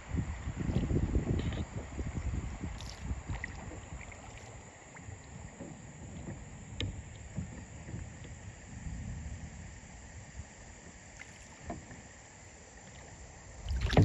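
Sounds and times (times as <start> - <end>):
water noise from paddle strokes: 0.0 - 14.0.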